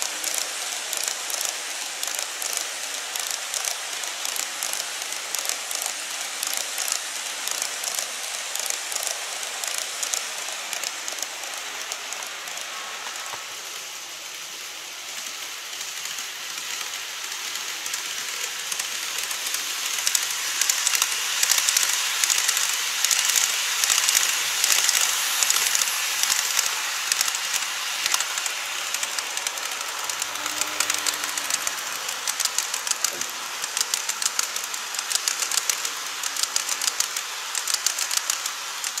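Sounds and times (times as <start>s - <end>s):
model train wheels rattling: 0.0s - 39.0s.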